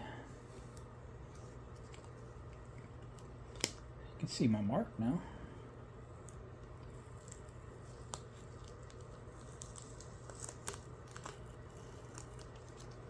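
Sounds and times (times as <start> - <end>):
steady low hum: 0.0 - 13.0
transfer paper peeling crinkles: 0.4 - 3.9, 6.0 - 13.0.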